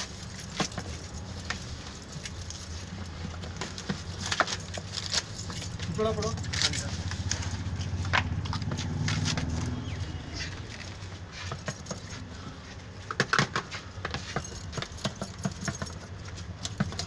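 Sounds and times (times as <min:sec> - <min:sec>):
metal bangles jingling: 0:00.0 - 0:13.0, 0:13.7 - 0:17.0.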